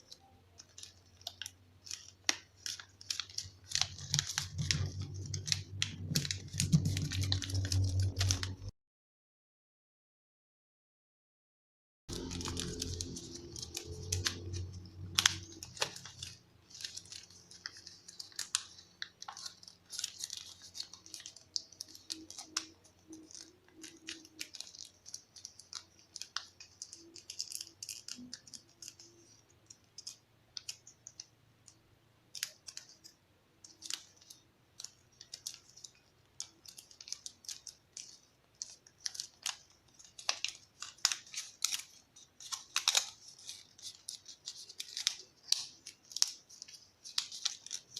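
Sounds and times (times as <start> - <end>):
paper crinkling as folded: 0.0 - 8.7, 12.1 - 31.4, 32.3 - 47.9.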